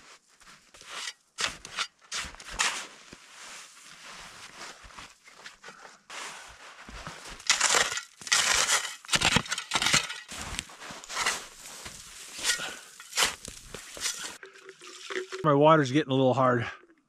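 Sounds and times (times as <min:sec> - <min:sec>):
snow crunching and scraping: 0:00.0 - 0:14.4.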